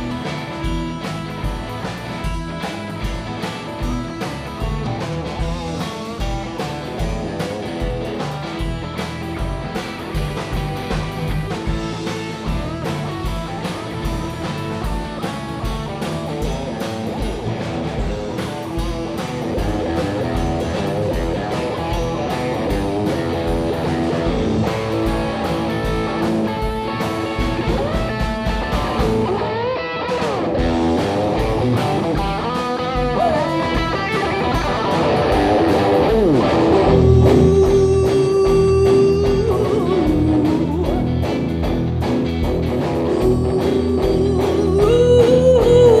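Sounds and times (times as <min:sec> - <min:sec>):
bass guitar: 0:00.0 - 0:46.0
drum-kit beat: 0:00.0 - 0:46.0
electric guitars: 0:00.0 - 0:46.0.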